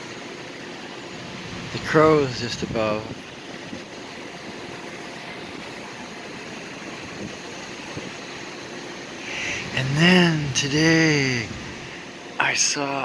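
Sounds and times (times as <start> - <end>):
outdoor background rumble and hiss: 0.0 - 13.0.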